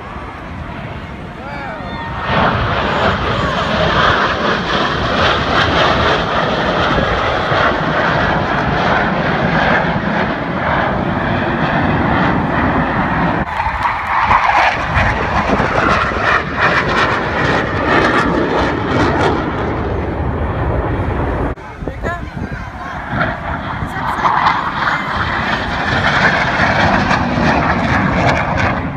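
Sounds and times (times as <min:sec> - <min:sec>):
jet aircraft flying past: 0:00.0 - 0:28.9.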